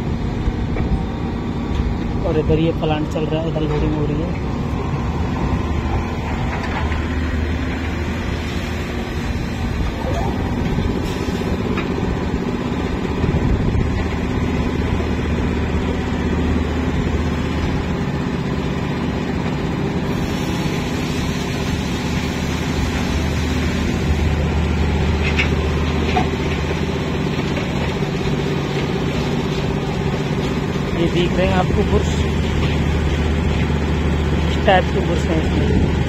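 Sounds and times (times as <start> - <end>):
heavy diesel machinery drone: 0.0 - 36.0.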